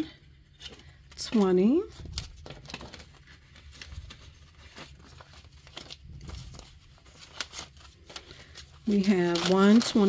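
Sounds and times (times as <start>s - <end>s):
banknotes flicking and rustling: 0.6s - 10.0s.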